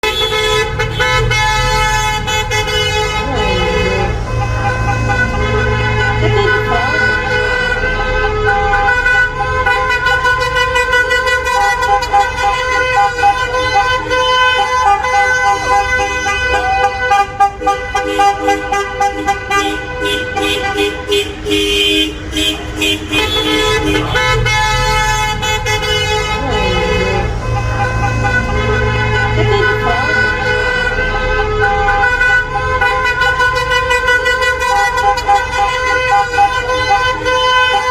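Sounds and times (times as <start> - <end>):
car horns honking: 0.0 - 37.9.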